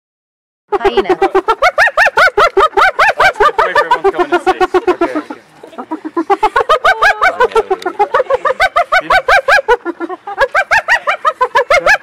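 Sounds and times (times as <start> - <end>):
hyena giggling: 0.8 - 12.0.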